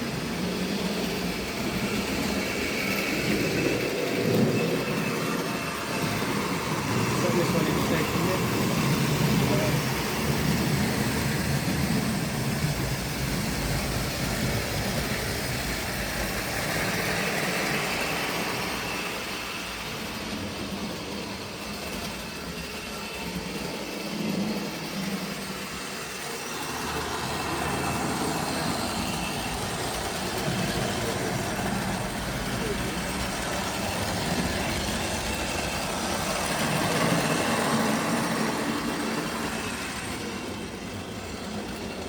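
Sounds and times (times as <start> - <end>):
model train motor hum: 0.0 - 42.0
wheel rumble on track: 0.0 - 42.0.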